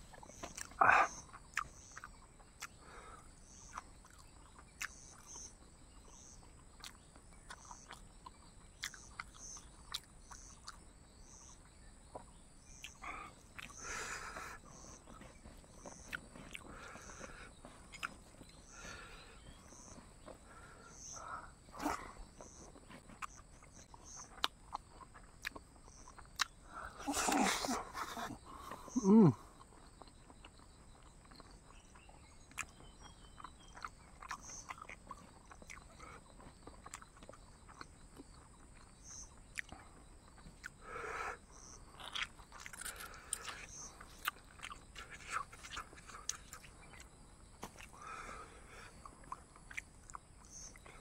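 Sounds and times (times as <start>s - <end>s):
insect chirping: 0.0s - 51.0s
soft chewing and mouth smacks: 0.0s - 51.0s.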